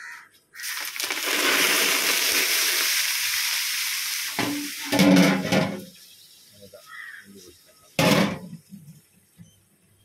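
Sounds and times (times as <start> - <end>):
hot fat sizzling: 0.5 - 8.6.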